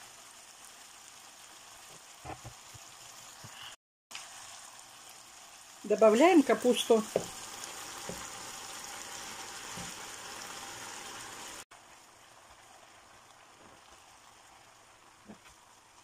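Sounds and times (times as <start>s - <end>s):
food sizzling in a hot pan: 0.0s - 16.0s.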